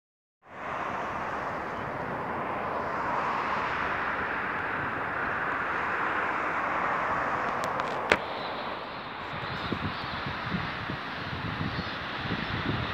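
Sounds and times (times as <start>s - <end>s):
jet engine noise: 0.5s - 12.9s.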